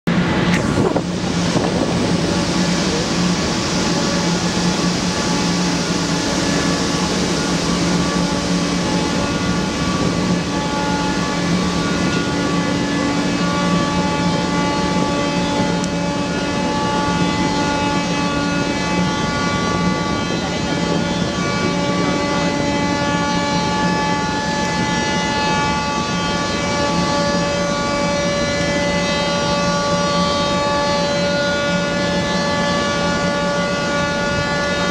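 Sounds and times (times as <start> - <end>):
rushing churned water: 0.1 - 31.0
ship horns blasting: 0.1 - 34.9.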